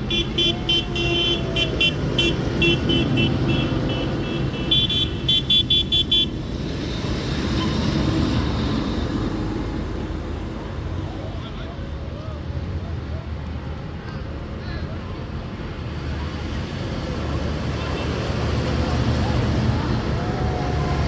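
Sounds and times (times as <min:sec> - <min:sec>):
tractor engines rumbling: 0:00.0 - 0:21.0.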